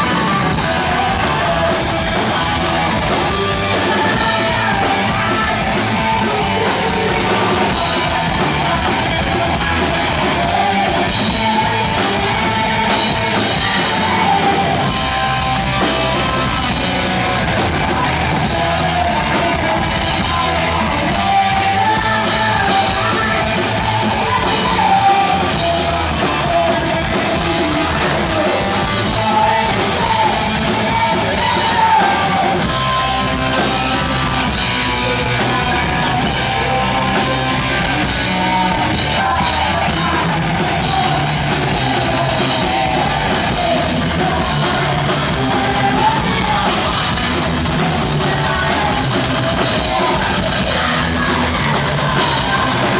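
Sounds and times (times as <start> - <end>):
heavy metal band playing live: 0.0 - 52.9
person singing: 0.0 - 52.9.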